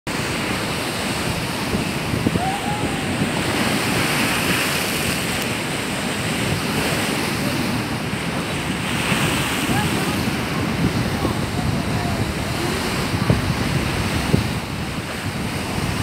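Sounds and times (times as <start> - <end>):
sea surf washing against wall: 0.1 - 16.0
wind on microphone: 0.1 - 16.0.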